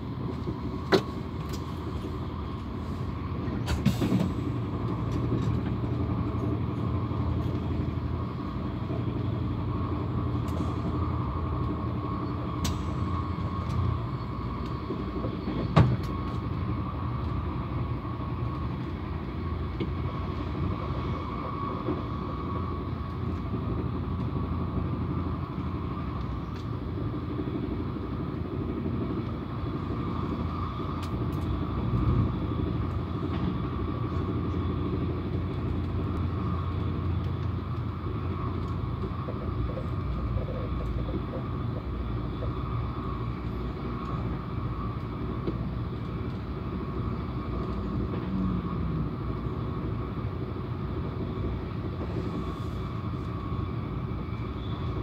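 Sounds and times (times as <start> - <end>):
train wheels rumbling on rails: 0.0 - 55.0
faint steady whine: 4.3 - 55.0.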